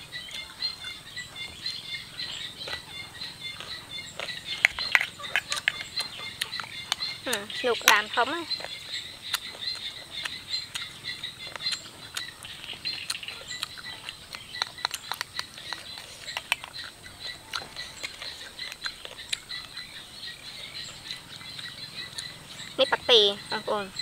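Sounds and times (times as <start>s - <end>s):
crickets chirping: 0.0s - 24.0s
chewing and smacking: 0.1s - 24.0s.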